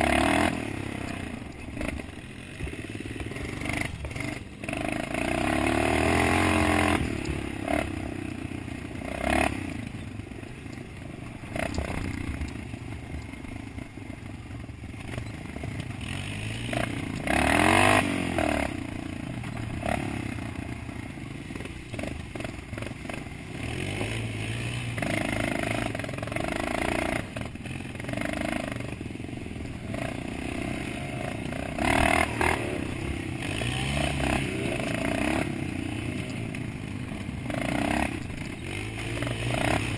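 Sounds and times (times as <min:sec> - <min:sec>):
dirt bike engine revving: 0:00.0 - 0:14.4, 0:15.0 - 0:39.9.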